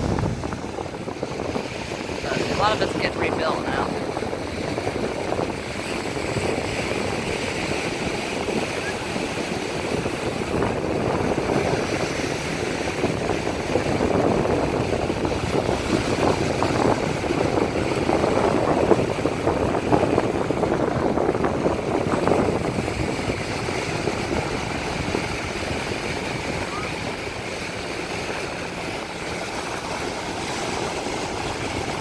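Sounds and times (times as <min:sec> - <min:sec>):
small waves breaking on beach: 0:00.0 - 0:32.0.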